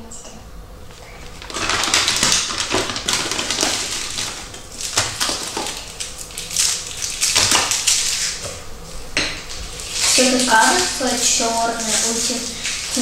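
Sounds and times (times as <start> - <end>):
candy wrappers crinkling: 0.9 - 8.5, 9.5 - 13.0.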